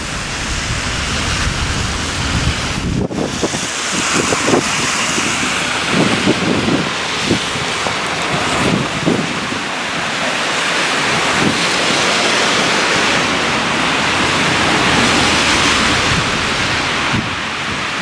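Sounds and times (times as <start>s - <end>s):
wind blowing across microphone: 0.0s - 18.0s.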